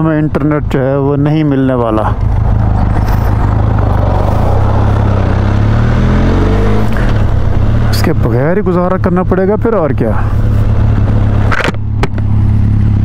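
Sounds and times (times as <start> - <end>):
motorcycle engine revving: 2.2 - 13.0.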